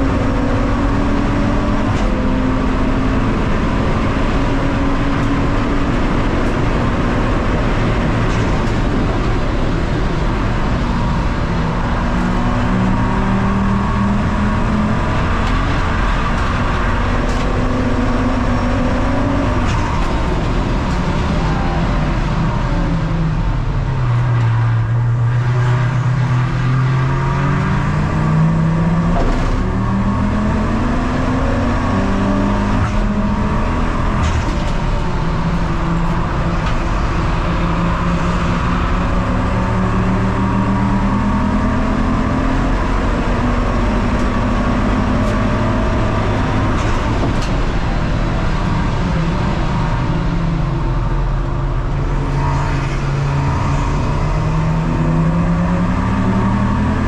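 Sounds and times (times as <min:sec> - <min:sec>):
race car engine revving through gears: 0:00.0 - 0:57.0.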